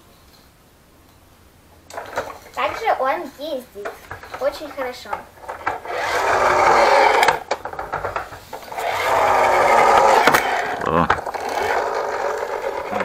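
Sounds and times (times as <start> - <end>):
toy bus wheels whirring: 1.9 - 13.0.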